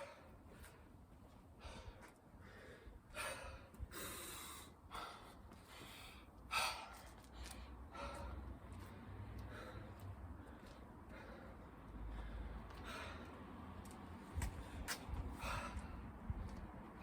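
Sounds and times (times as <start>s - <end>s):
man breathing hard and gasping: 1.5s - 13.5s, 14.5s - 16.4s.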